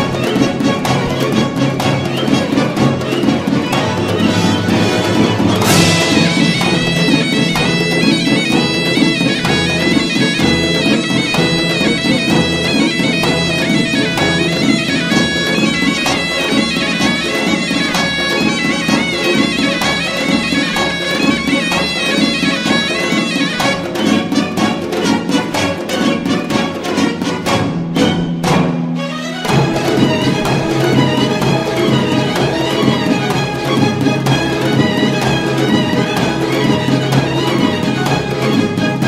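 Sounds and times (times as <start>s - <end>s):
reed pipe melody: 0.0s - 28.2s, 29.0s - 39.0s
regular drum beat: 0.0s - 39.0s.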